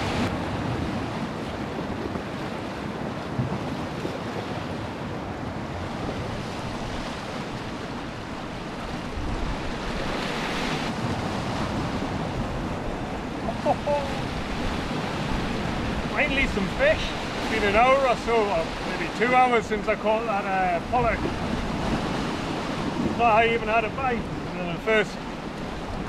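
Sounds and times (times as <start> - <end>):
surf washing against rocks: 0.0 - 26.0
wave breaking over rocks: 0.0 - 26.0.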